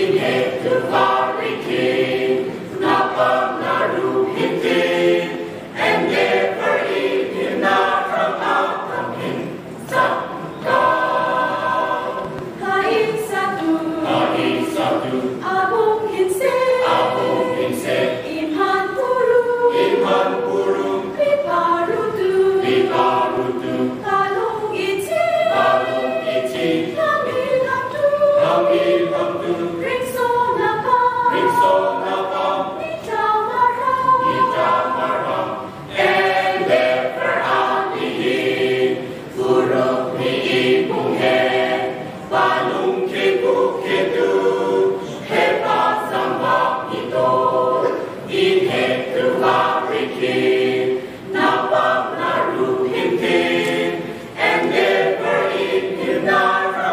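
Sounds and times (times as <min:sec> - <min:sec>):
choir singing a hymn a cappella: 0:00.0 - 0:56.9.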